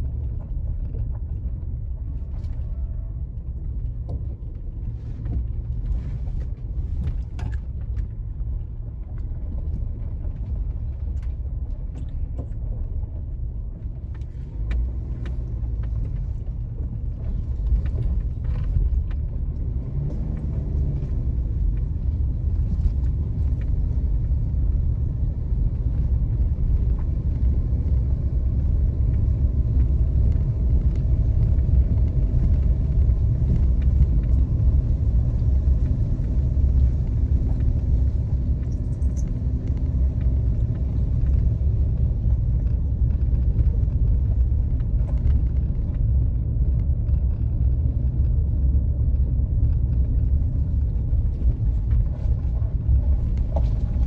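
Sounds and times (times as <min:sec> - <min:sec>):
car driving on rough road: 0:00.0 - 0:54.0.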